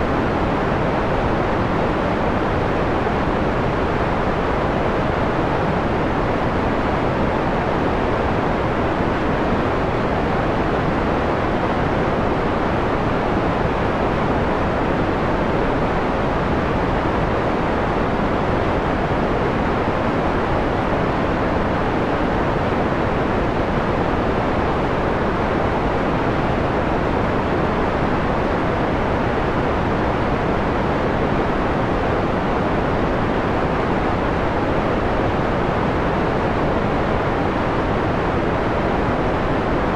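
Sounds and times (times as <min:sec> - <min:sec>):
filtered white noise rumble: 0:00.0 - 0:39.9.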